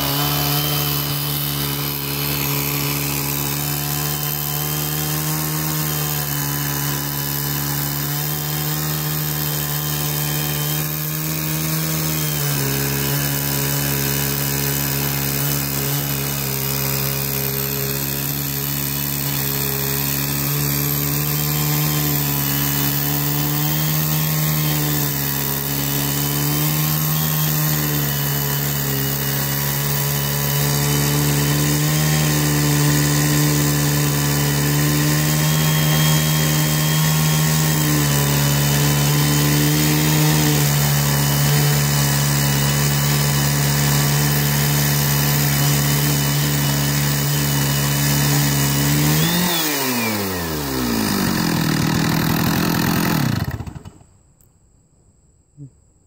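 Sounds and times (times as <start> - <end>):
chainsaw cutting through log: 0.0 - 54.2.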